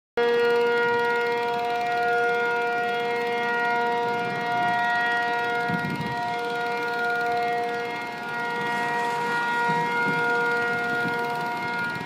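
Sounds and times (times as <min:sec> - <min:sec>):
air-raid siren steady tone: 0:00.2 - 0:12.0.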